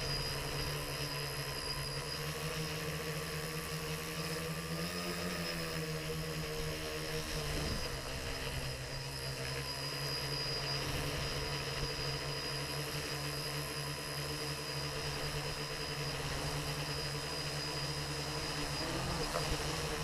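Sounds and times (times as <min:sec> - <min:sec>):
model aircraft motor drone: 0:00.0 - 0:20.0.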